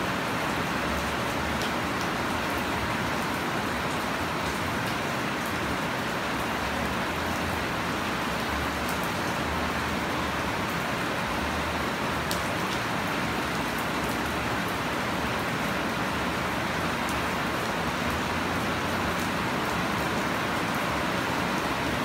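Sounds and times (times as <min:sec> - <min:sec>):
heavy rain on plants and soil: 0:00.0 - 0:22.0.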